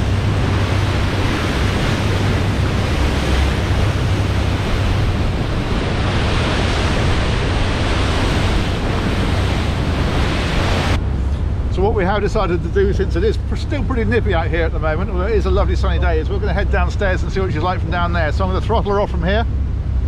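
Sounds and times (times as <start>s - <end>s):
wake water rushing: 0.0s - 20.0s
wind buffeting microphone: 0.0s - 20.0s.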